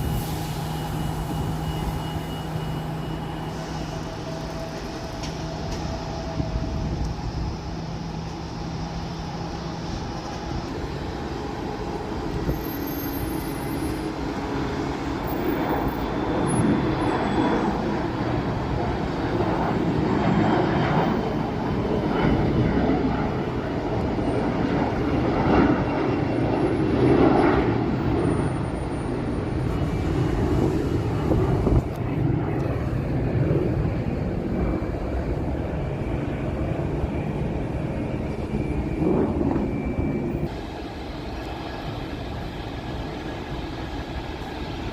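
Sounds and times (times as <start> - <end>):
jet engines rumbling: 0.0 - 44.9
thin high engine whine: 0.0 - 44.9.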